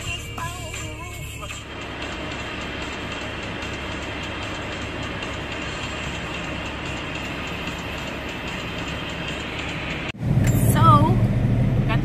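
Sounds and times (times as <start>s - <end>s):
vehicle low rumble and hiss: 0.0s - 12.0s.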